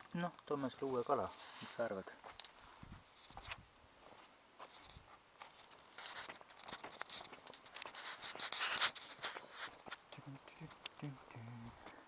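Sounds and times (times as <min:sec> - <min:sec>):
rustling in dry grass and leaves: 0:00.2 - 0:03.6, 0:04.6 - 0:11.2.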